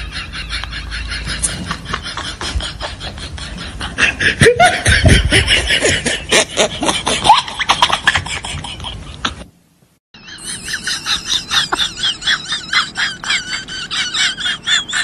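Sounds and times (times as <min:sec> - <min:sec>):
person laughing and giggling: 0:00.0 - 0:09.5, 0:10.2 - 0:15.0.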